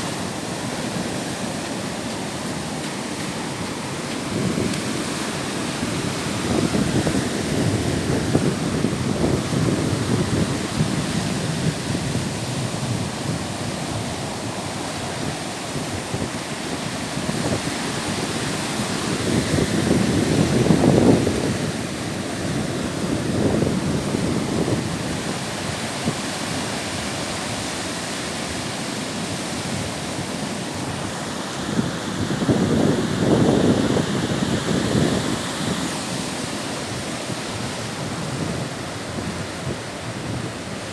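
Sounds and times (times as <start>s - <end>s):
surf washing onto shore: 0.0s - 40.9s
wind buffeting microphone: 0.0s - 40.9s.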